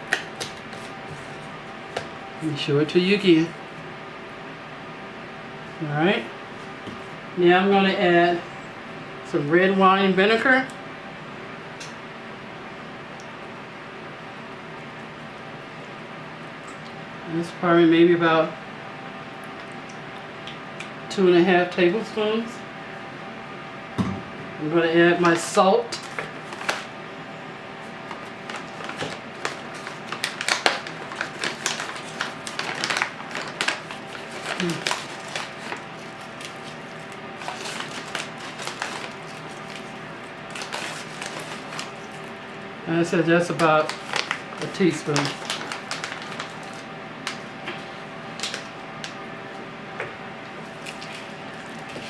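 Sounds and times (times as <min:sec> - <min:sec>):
faint room hum: 0:00.0 - 0:52.0.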